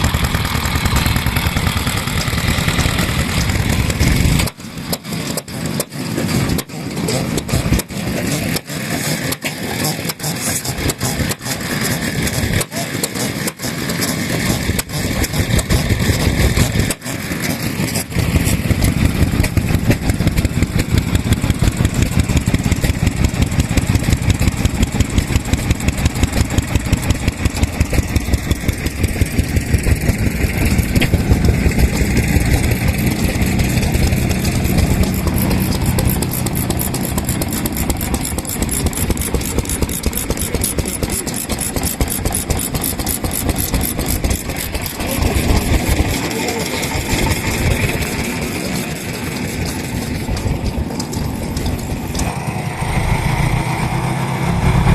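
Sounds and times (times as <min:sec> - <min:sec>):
farm engine running: 0:00.0 - 0:54.9.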